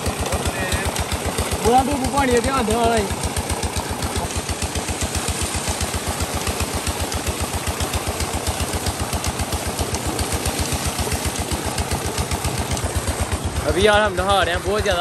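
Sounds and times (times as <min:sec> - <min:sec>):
diesel engine chugging: 0:00.0 - 0:15.0
water gushing and splashing: 0:00.0 - 0:15.0.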